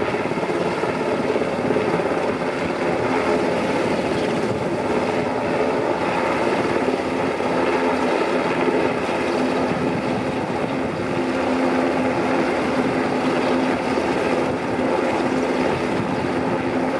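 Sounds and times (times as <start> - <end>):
helicopter hovering: 0.0 - 16.9.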